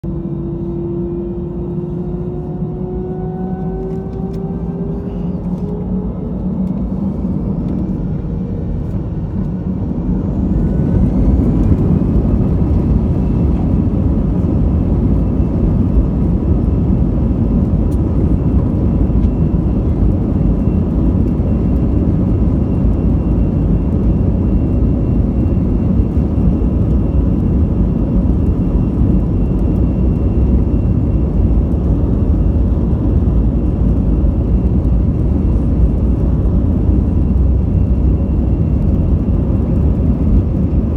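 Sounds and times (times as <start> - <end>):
aeroplane engines roaring: 0.0 - 40.9
thin engine whine: 0.0 - 40.9.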